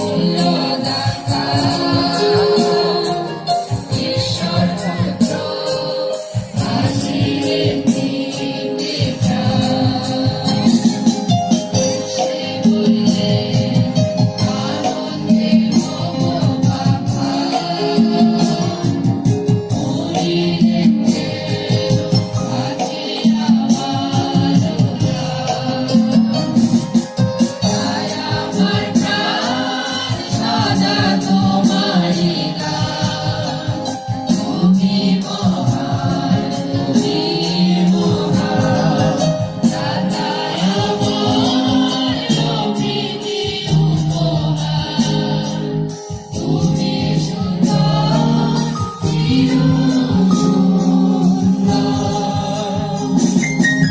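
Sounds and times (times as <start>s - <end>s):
choir singing a hymn: 0.0s - 53.5s
tambourine beat: 0.0s - 53.9s.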